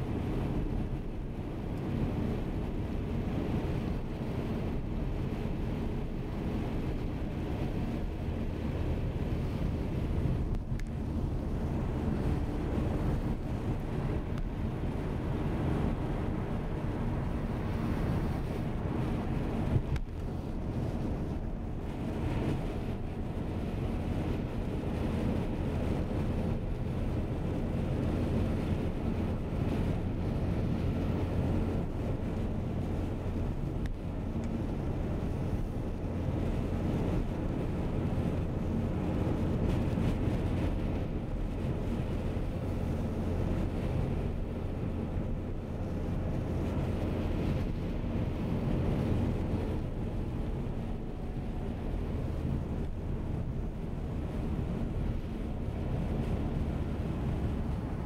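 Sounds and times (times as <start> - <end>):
car engine hum: 0.0 - 58.0
tyre noise on snowy road: 0.0 - 58.0.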